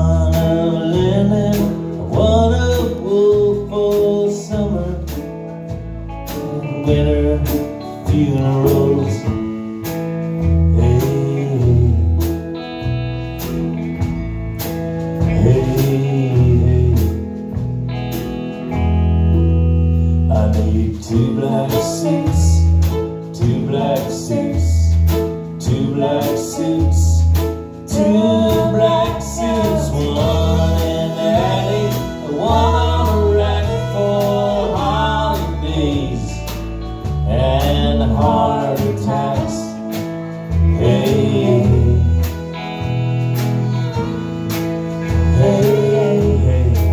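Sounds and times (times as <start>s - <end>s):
person singing: 0.0s - 5.3s, 6.3s - 12.5s, 15.2s - 17.6s, 20.2s - 46.9s
bass guitar: 0.0s - 46.9s
electric guitar: 0.0s - 46.9s.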